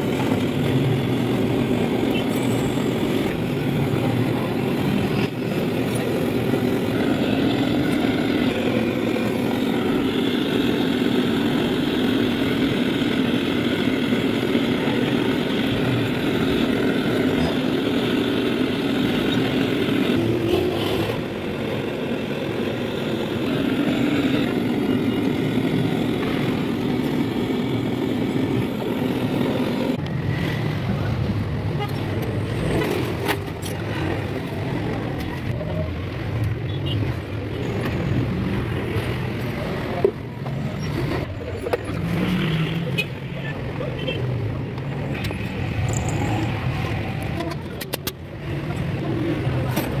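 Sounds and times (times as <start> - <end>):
engine running: 0.0 - 50.0.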